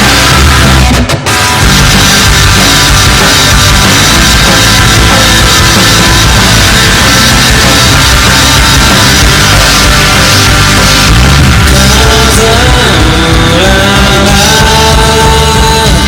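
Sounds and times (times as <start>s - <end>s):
heavy rock music with drums: 0.0s - 16.0s.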